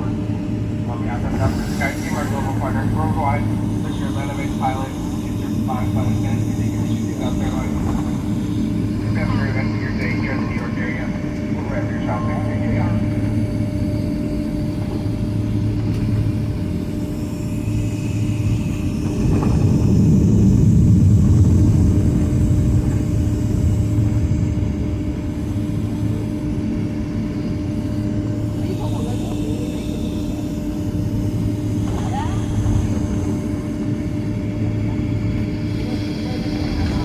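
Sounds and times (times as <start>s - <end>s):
aircraft cabin hum: 0.0s - 37.0s.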